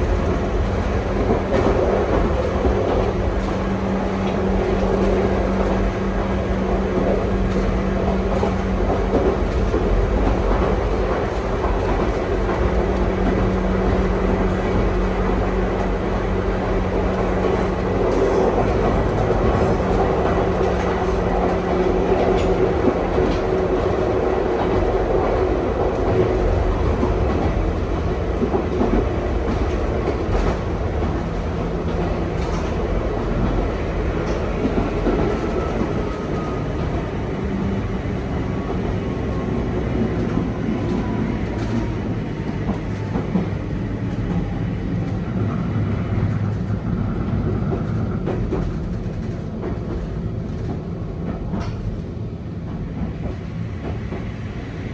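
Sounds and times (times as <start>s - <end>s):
rail-joint clacks: 0.0s - 45.5s, 46.3s - 54.6s
train wheels rumbling on rail: 0.0s - 54.9s.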